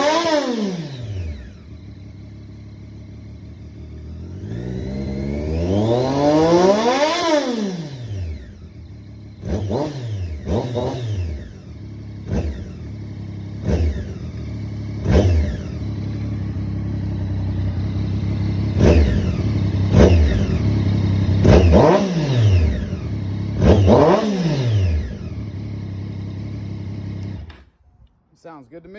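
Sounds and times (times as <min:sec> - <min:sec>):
motorcycle engine revving: 0:00.0 - 0:27.8.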